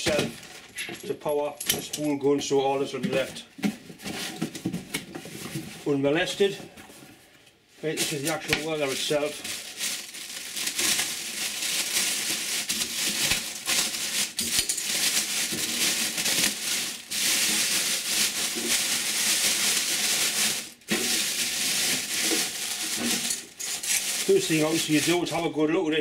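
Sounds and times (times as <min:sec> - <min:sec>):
plastic bag rustling: 0:03.2 - 0:25.6.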